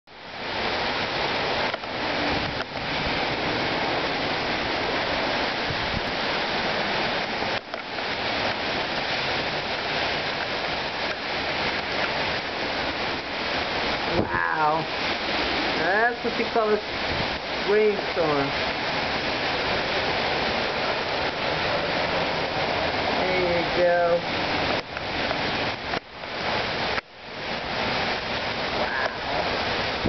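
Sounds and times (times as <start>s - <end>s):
heavy rain downpour: 0.1s - 30.0s.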